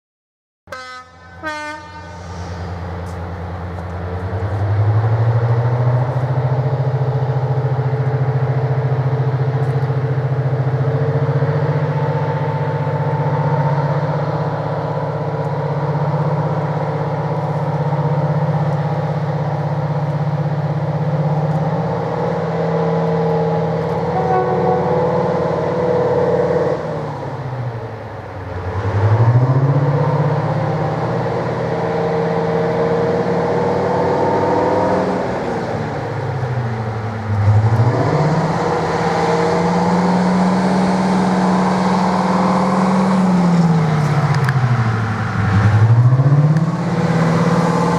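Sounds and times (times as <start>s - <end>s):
diesel locomotive engine pulling away: 0.7s - 47.9s.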